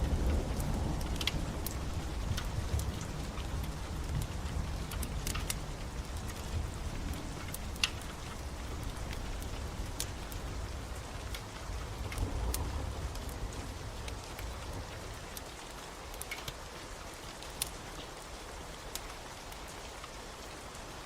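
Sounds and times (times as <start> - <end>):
wood fire popping and crackling: 0.0 - 20.2
steady rain: 0.0 - 21.0.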